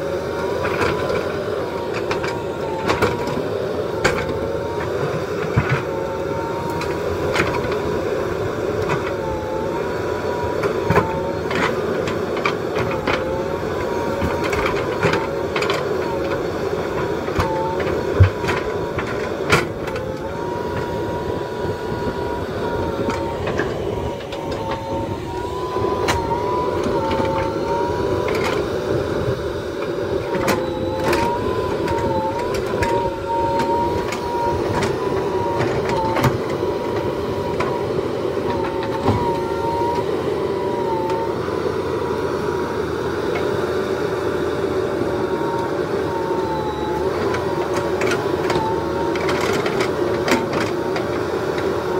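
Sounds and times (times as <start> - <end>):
diesel engine under load: 0.0 - 51.9
hydraulic whine: 0.0 - 51.9.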